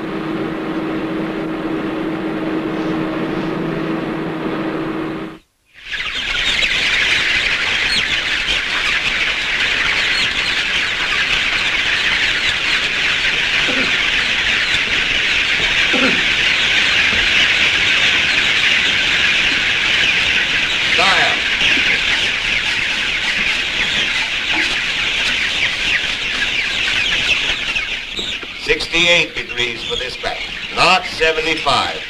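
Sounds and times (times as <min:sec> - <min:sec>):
chickens cheeping: 0:00.1 - 0:32.0
low chicken calls: 0:05.0 - 0:32.0.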